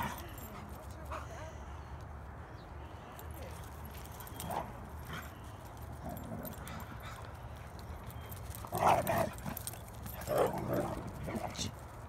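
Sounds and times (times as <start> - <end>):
dogs in rough play: 0.0 - 1.3, 3.2 - 12.0.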